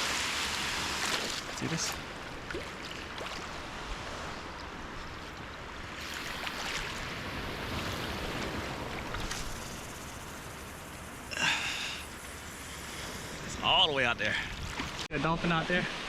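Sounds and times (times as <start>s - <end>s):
ocean waves on a beach: 0.0s - 16.0s.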